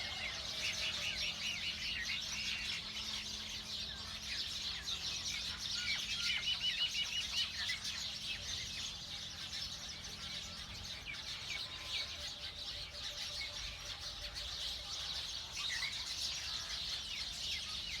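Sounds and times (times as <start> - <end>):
small birds chirping chorus: 0.0 - 18.0.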